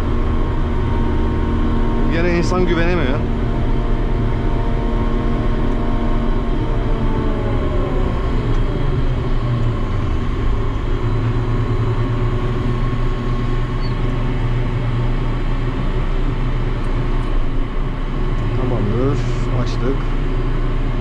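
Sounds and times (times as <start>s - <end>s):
crane machinery humming: 0.0s - 21.0s.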